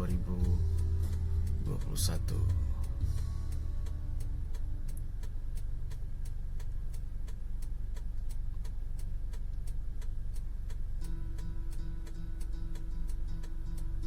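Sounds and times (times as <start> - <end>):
low rumble: 0.0 - 14.0
sharp ticks: 0.0 - 14.0
steady tone: 0.0 - 14.0.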